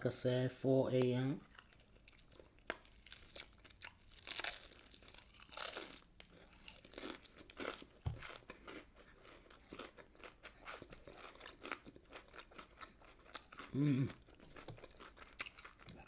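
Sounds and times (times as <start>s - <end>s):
fried chicken crunching: 1.5s - 16.0s.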